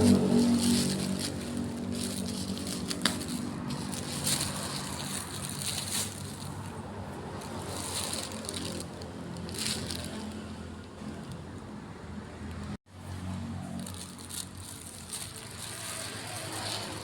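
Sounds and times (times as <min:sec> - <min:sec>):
packaging crinkling: 0:00.0 - 0:11.4, 0:13.8 - 0:17.0.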